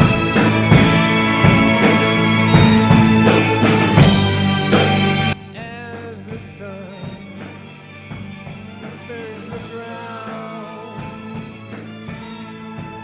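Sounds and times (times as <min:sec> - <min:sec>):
rock song with guitar and vocals: 0:00.0 - 0:13.0.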